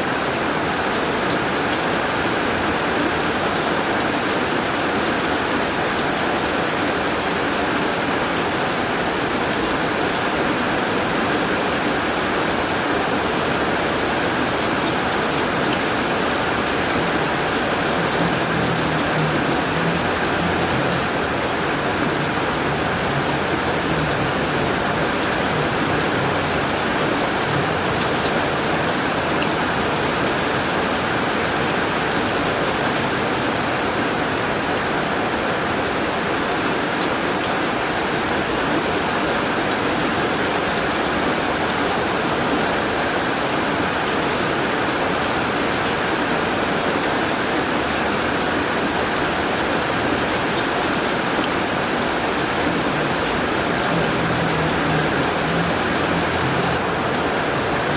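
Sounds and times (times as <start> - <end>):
heavy rain on a tin roof: 0.0 - 57.9.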